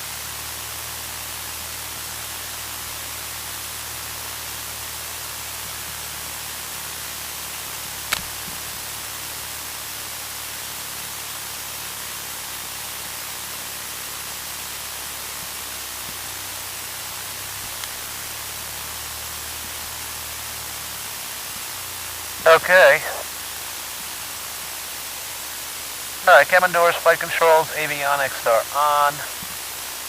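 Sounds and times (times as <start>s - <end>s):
steady audio hiss: 0.0s - 30.0s.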